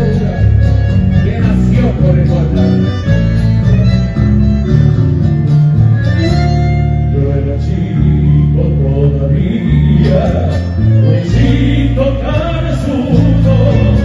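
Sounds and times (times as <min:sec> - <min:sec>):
accordion melody: 0:00.0 - 0:14.0
guitars and bass: 0:00.0 - 0:14.0.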